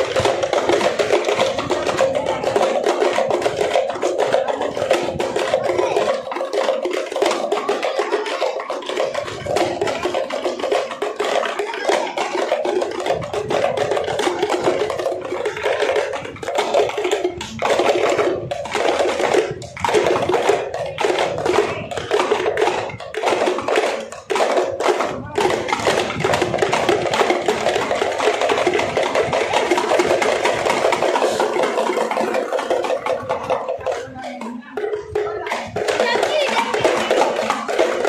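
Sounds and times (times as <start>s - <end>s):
frame drums beaten with sticks: 0.0s - 38.0s.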